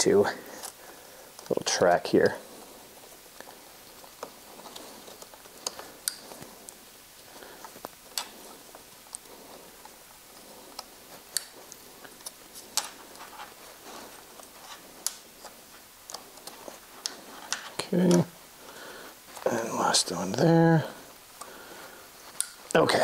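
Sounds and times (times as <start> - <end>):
wiring rustling: 0.0 - 23.0.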